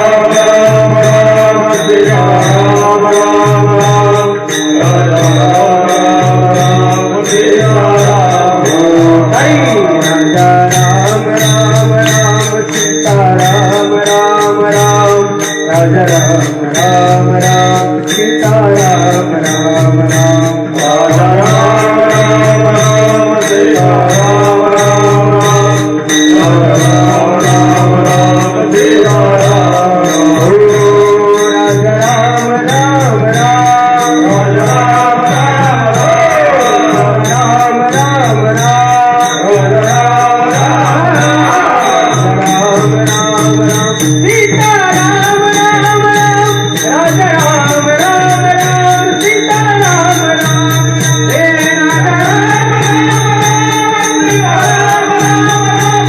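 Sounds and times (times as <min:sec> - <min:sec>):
jingling hand cymbals: 0:00.0 - 0:56.0
person singing wordless melody: 0:00.0 - 0:56.0
steady held tones: 0:00.0 - 0:56.0.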